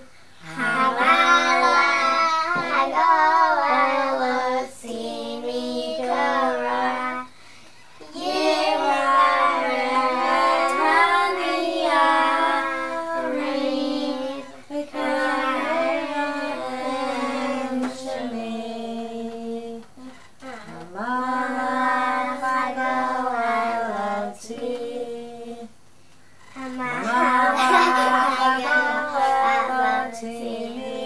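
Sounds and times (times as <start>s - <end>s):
child singing: 0.0s - 7.3s, 8.0s - 25.7s, 26.6s - 31.0s.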